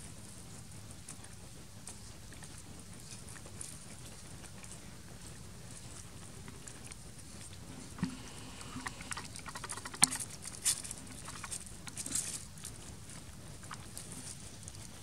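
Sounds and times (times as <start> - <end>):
rustling of dry leaves and bark: 0.0 - 15.0.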